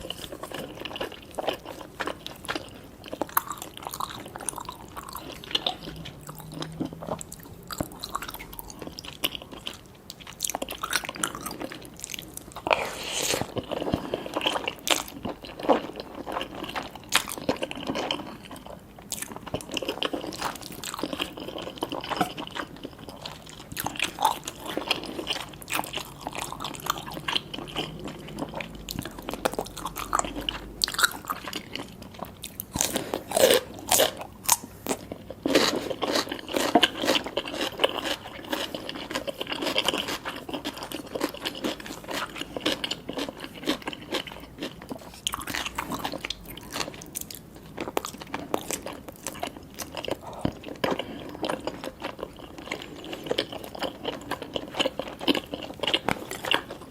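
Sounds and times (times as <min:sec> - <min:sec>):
chewing and crunching: 0:00.0 - 0:56.9.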